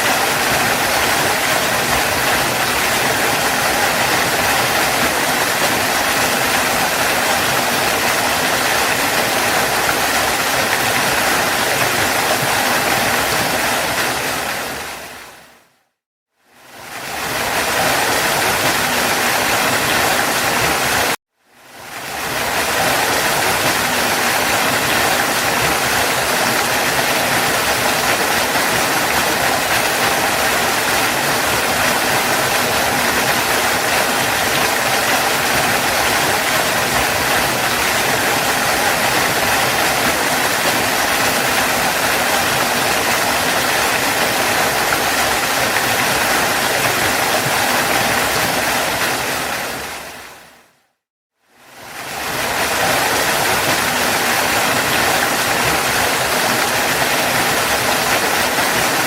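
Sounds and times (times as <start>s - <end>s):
waterfall rushing: 0.0s - 15.7s, 16.6s - 21.2s, 21.8s - 50.7s, 51.7s - 59.0s.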